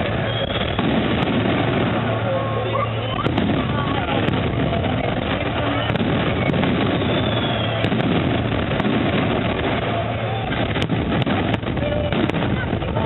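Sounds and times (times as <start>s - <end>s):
firework whistle: 0.0s - 12.2s
fireworks bursting and crackling: 0.0s - 13.0s.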